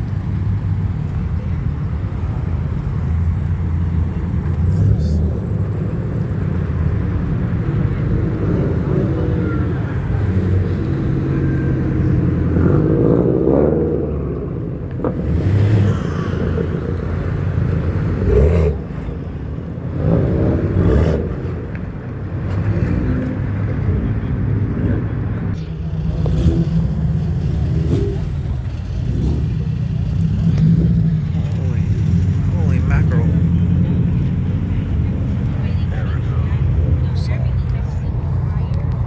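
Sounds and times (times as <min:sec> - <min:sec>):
car engines rumbling: 0:00.0 - 0:39.0.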